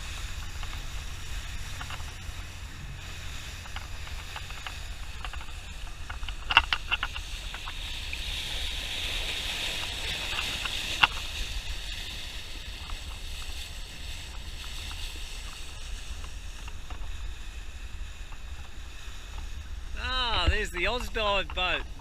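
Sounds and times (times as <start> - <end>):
water rushing along a hull: 0.0 - 22.0.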